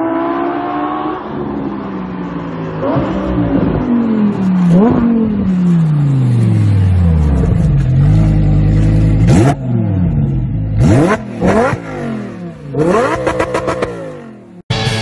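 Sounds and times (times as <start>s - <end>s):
sports car engine revving: 0.0s - 14.6s.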